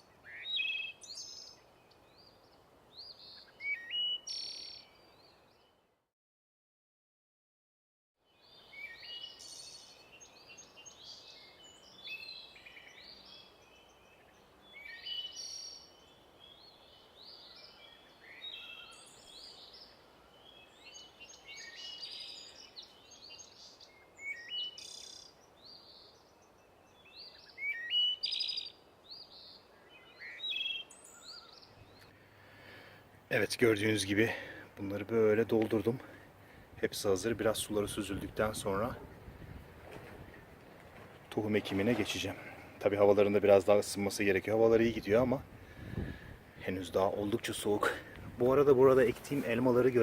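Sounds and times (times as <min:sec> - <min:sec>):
songbirds singing and chirping: 0:00.0 - 0:05.9, 0:08.2 - 0:50.0
faint steady background hiss: 0:08.3 - 0:50.0.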